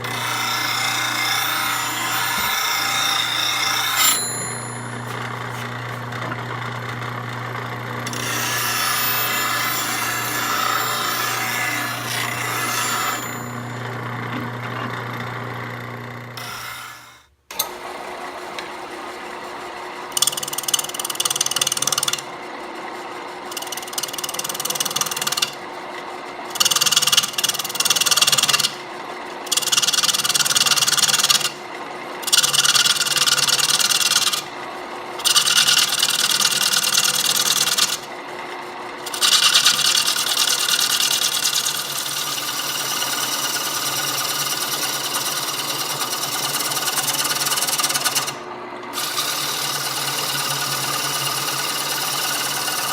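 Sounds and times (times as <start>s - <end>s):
lathe tool scraping wood: 0.0s - 19.4s, 20.1s - 22.2s, 23.4s - 25.6s, 26.5s - 28.8s, 29.4s - 31.6s, 32.2s - 38.2s, 38.9s - 52.9s
lathe motor humming: 0.0s - 20.8s, 29.4s - 52.9s.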